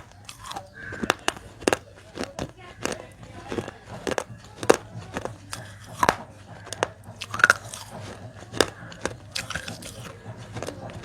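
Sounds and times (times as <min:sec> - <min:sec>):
chewing gritty clay fragments: 0:00.0 - 0:11.0.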